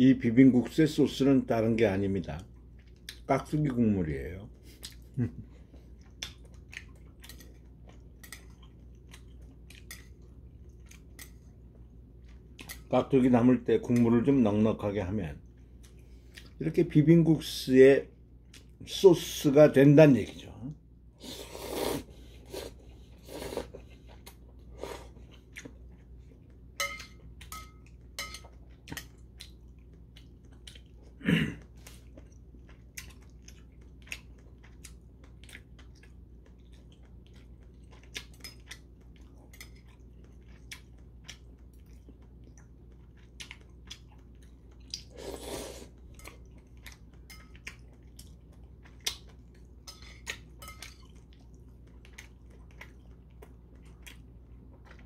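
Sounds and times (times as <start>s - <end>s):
louder eating sounds: 0.5s - 55.0s.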